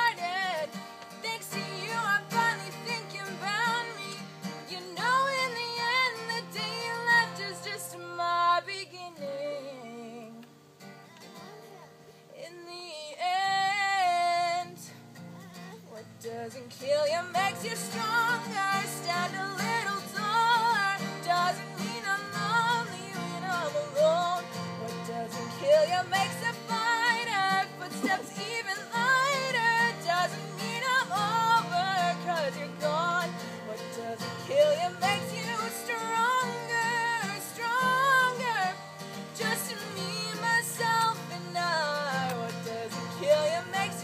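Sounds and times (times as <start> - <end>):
woman singing: 0.0 - 10.6, 12.3 - 44.0
acoustic guitar strumming chords: 0.0 - 12.2, 13.2 - 44.0.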